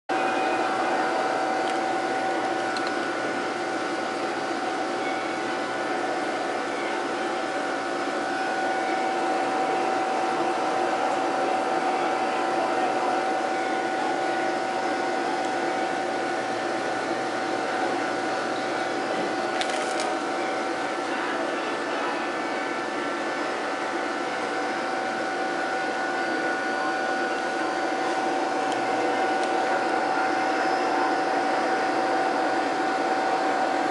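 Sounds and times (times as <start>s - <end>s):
mid-pitched whine: 0.1s - 33.9s
tank pumps whirring hum: 0.1s - 33.9s.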